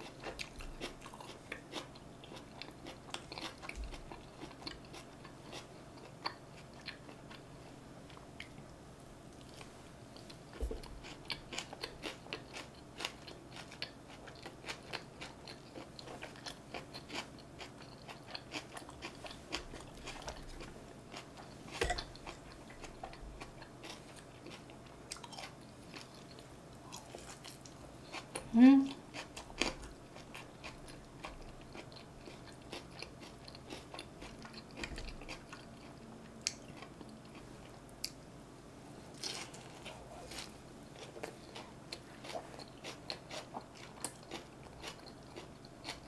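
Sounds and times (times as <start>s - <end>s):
chewing and biting food: 0.0s - 7.4s, 9.4s - 28.5s, 29.1s - 38.2s, 39.1s - 46.0s.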